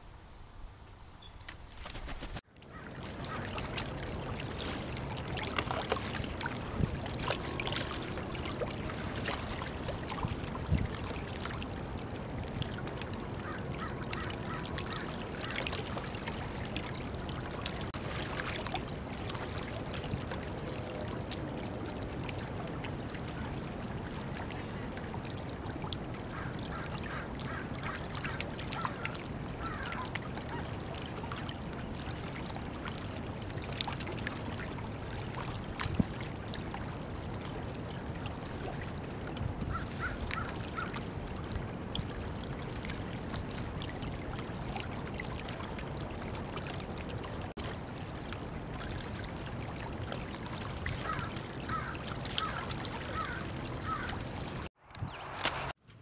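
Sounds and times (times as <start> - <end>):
water lapping among rocks: 1.6 - 54.8.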